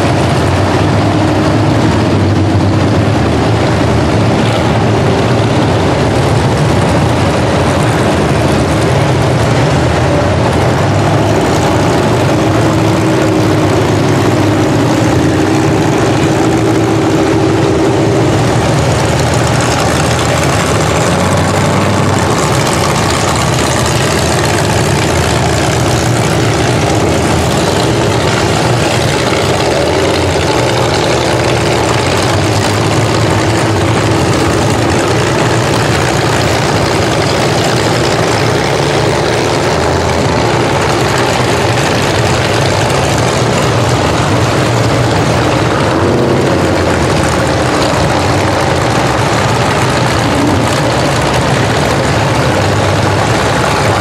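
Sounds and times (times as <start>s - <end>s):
car engines idling: 0.0s - 54.0s.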